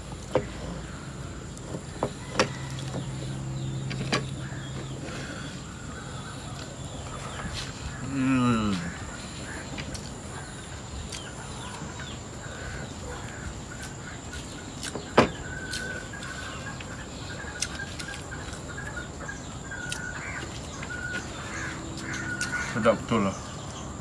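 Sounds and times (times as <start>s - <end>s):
chickens clucking: 0.0s - 23.6s.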